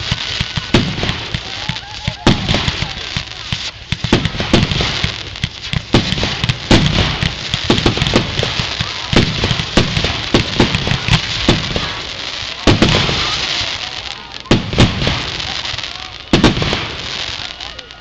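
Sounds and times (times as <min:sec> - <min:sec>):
fireworks booms and pops: 0:00.0 - 0:18.0
fireworks crackling: 0:00.0 - 0:18.0.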